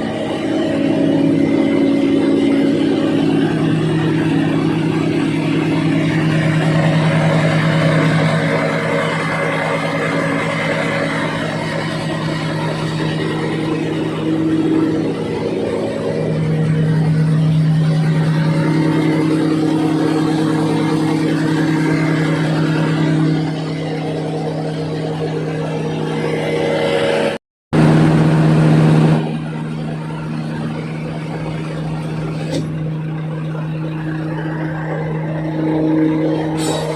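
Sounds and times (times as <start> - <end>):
large diesel engine humming: 0.0 - 36.9.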